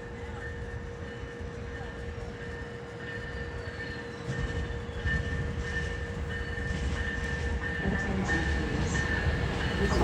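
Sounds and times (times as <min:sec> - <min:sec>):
train rumbling on tracks: 0:00.0 - 0:10.0.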